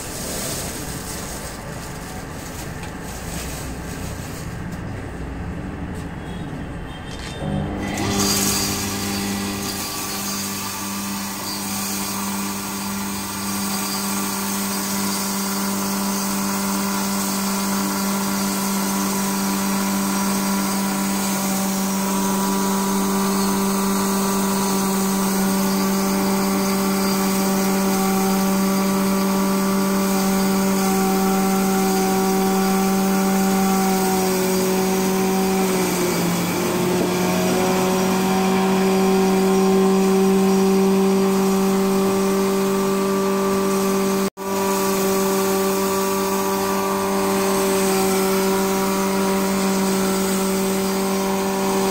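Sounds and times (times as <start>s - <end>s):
electric grinder humming and whining: 7.4s - 51.9s.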